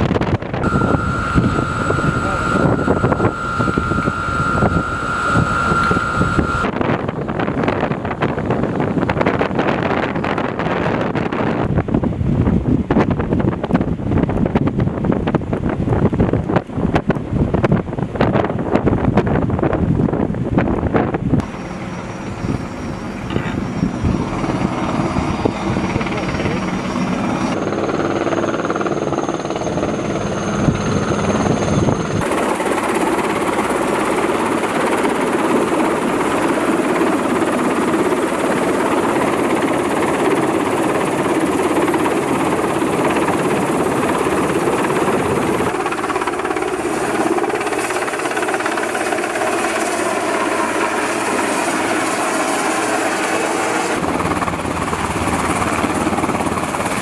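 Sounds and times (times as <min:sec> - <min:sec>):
engine whine: 0:00.0 - 0:12.2, 0:20.1 - 0:57.0
helicopter rotor chopping: 0:00.0 - 0:57.0.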